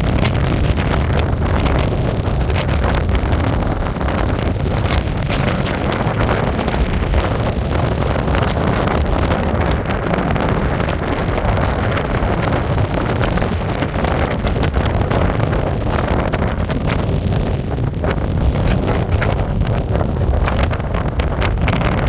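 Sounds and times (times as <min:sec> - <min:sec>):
sheet cracking in wind: 0:00.0 - 0:22.0
wind buffeting microphone: 0:00.0 - 0:22.0.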